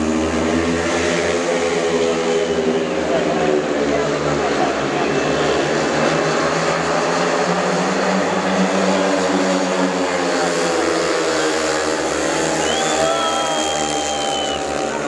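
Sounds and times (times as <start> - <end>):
motorcycles racing at high revs: 0.0 - 15.0.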